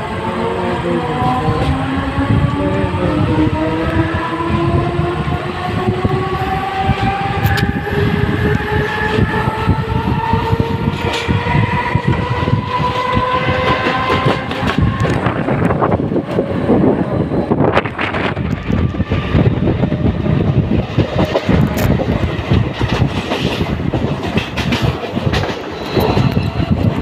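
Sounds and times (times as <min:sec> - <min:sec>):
electric train whine: 0:00.0 - 0:27.0
wheels rumbling on track: 0:00.0 - 0:27.0.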